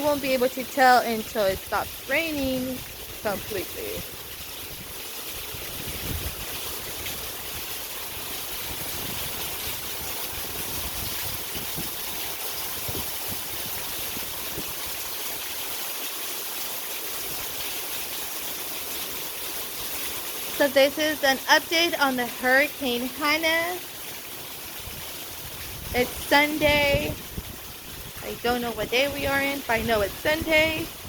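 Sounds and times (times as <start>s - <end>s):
steady rain hissing: 0.0s - 31.0s.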